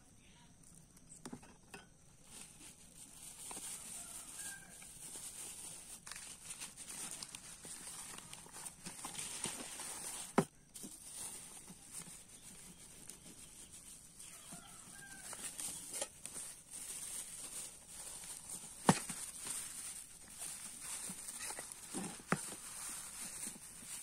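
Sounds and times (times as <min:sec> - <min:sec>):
plastic bags crinkling: 0:02.2 - 0:24.0.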